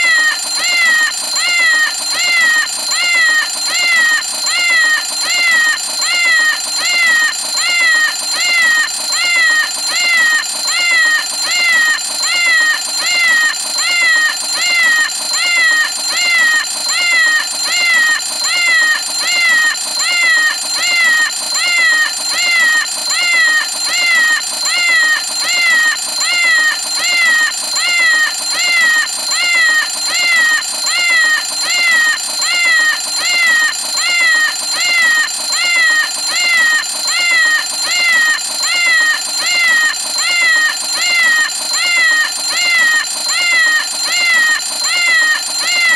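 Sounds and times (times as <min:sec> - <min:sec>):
alarm clock meows: 0:00.0 - 0:45.9
high ringing tone: 0:00.0 - 0:45.9.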